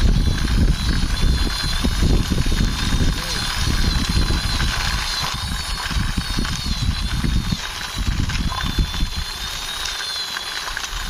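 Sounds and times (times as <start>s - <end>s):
toy jeep wheels scraping on wall: 0.0s - 11.0s.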